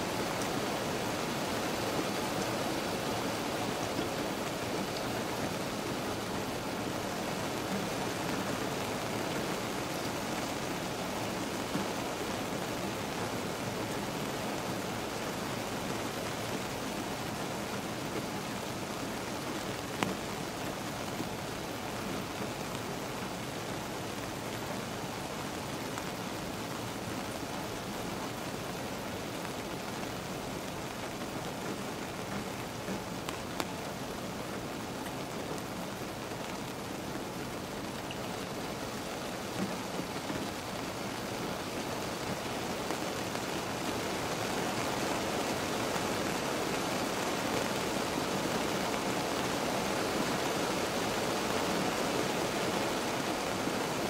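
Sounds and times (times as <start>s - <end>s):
rain falling on a car: 0.0s - 54.0s.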